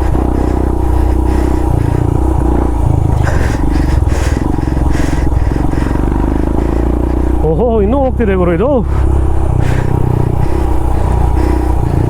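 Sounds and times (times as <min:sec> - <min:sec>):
motorcycle engine pulling uphill: 0:00.0 - 0:12.0.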